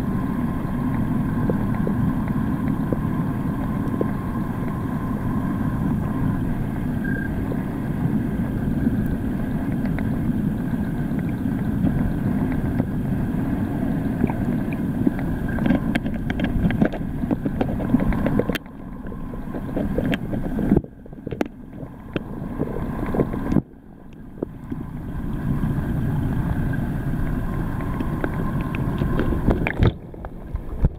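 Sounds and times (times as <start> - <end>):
muffled underwater rumble: 0.0 - 30.9
underwater clicks and crackles: 0.1 - 7.5, 8.4 - 30.9.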